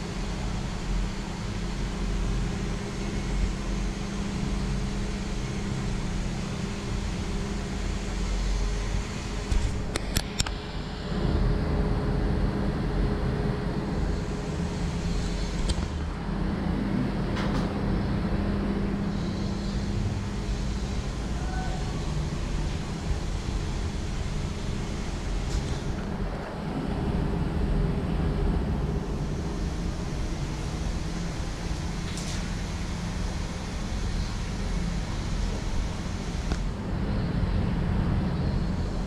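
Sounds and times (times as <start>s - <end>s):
water pumps humming: 0.0s - 39.0s.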